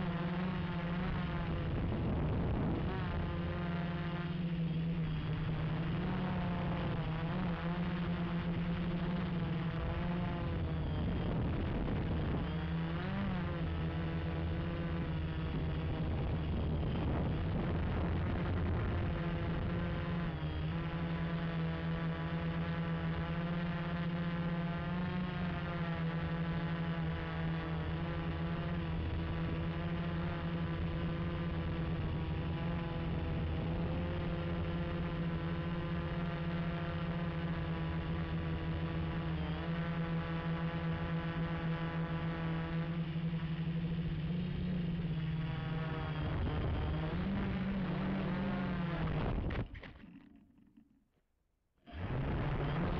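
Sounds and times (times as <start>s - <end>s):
quadcopter motors buzzing: 0.0s - 50.9s, 51.9s - 52.9s.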